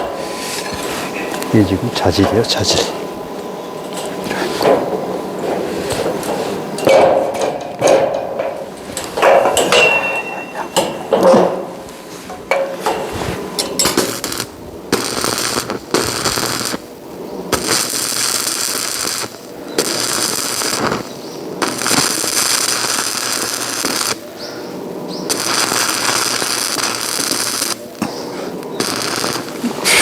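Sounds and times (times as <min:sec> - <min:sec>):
arc welding crackle: 0:00.0 - 0:30.0.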